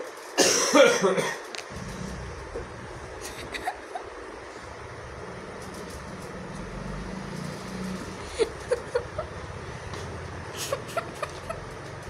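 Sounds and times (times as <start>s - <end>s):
low background hum: 0.1s - 12.0s.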